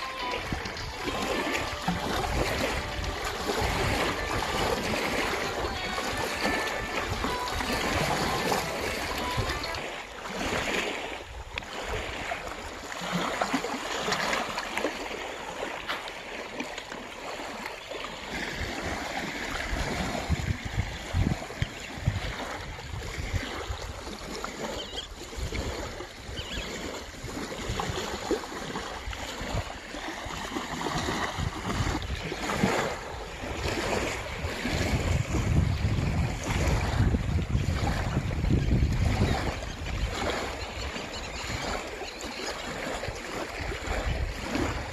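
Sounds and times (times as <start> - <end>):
wind buffeting microphone: 0.0 - 14.2, 18.3 - 42.0, 42.7 - 44.9
waves lapping on gravel: 0.0 - 44.9.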